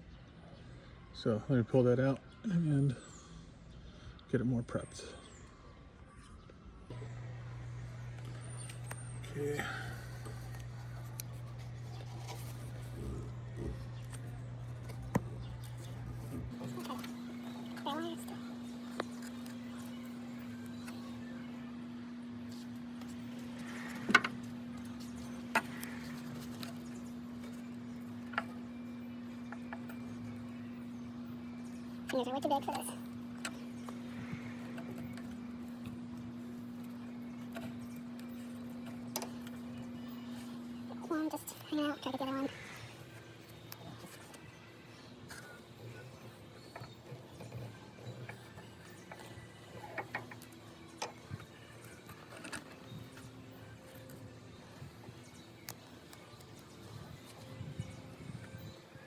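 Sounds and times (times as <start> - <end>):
steady low hum: 2.2 - 59.0.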